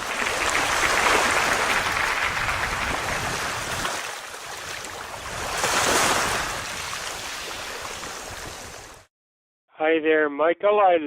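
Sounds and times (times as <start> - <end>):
surf washing onto beach: 0.0 - 9.0.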